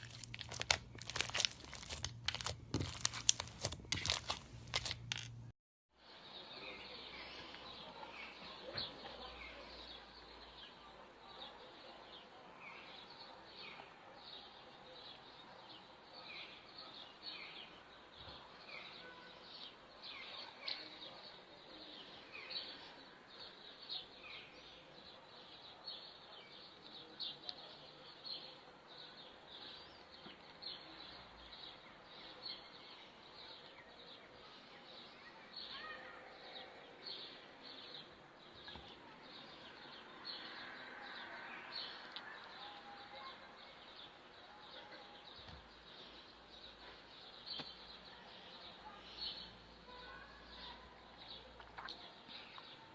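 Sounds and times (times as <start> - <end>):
birds chirping faintly: 0.0 - 52.9.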